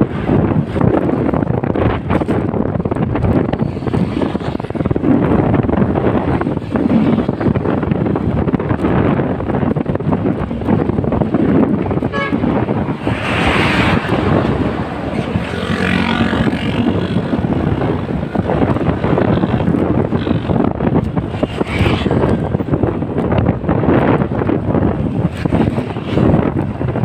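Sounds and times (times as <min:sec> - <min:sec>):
passing traffic engines: 0:00.0 - 0:27.0
wind buffeting microphone: 0:00.0 - 0:27.0.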